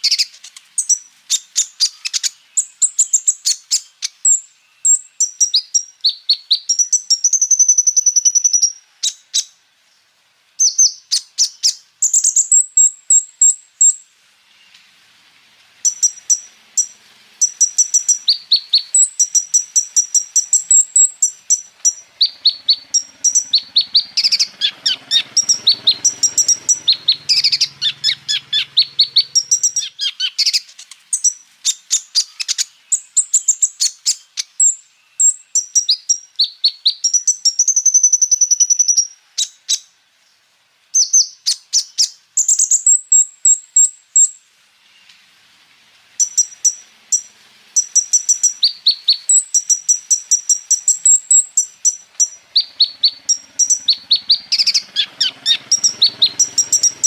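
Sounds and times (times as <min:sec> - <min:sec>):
bird singing rapid chirps and trills: 0:00.0 - 0:09.6, 0:10.6 - 0:14.8, 0:15.8 - 0:39.9, 0:46.2 - 0:57.0.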